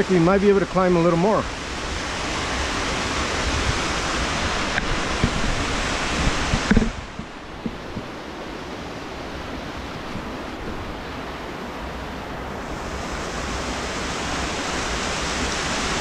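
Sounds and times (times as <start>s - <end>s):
creek water rushing: 0.0s - 16.0s
wind rumble on microphone: 1.5s - 16.0s.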